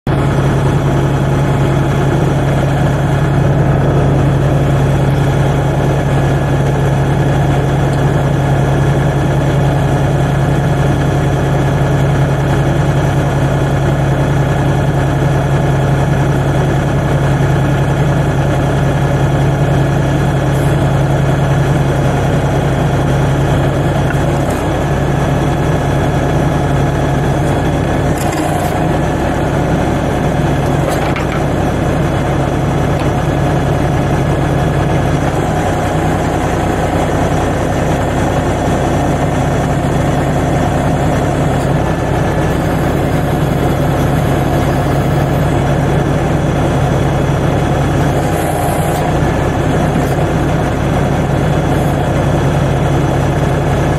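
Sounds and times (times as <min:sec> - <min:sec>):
diesel engine idling: 0:00.1 - 0:53.9.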